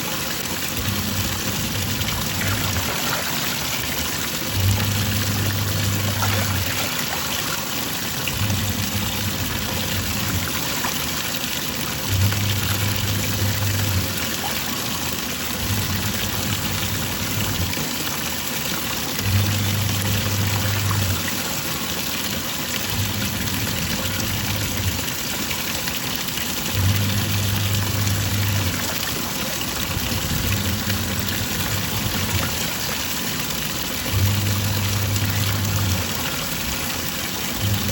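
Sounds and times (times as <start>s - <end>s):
washing machine motor humming: 0.0s - 37.9s
water churning: 0.0s - 37.9s.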